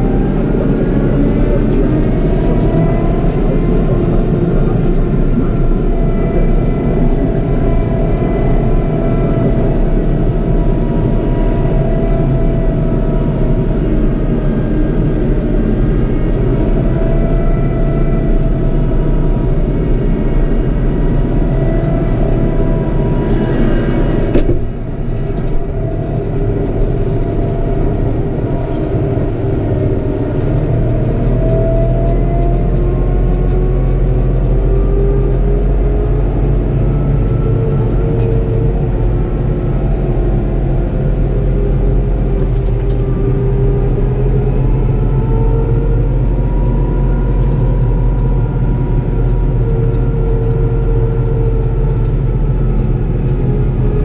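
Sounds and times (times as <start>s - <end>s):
tractor engine drone with whine: 0.0s - 54.0s.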